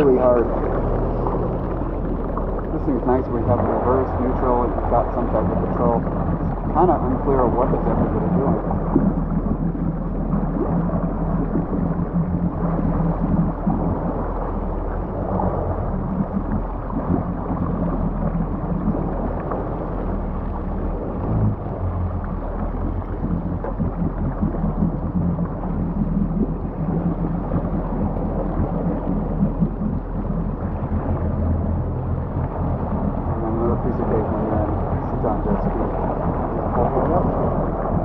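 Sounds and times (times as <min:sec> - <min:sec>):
jet ski engine idling: 0:00.0 - 0:38.0
water noise: 0:00.0 - 0:38.0.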